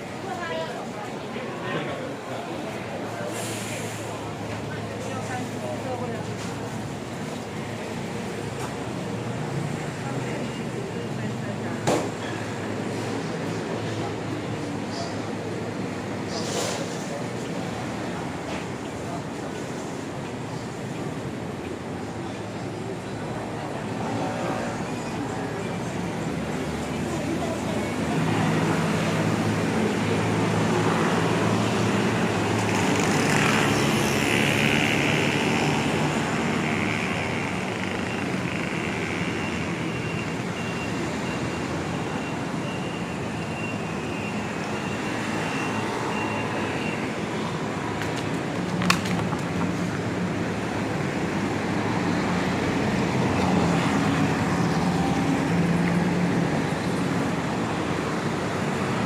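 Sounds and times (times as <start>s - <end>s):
traffic passing by: 0.0s - 59.0s.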